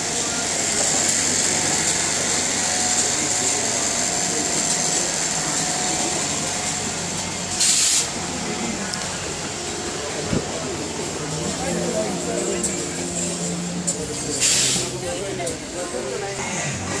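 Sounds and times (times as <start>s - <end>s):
high-pitched hissing background noise: 0.0s - 16.4s.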